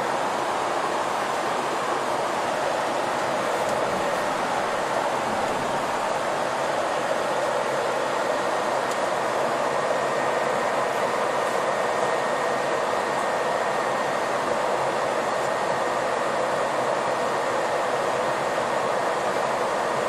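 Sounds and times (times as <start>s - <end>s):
faint steady whine: 0.0s - 20.0s
road and engine noise inside bus: 0.0s - 20.0s.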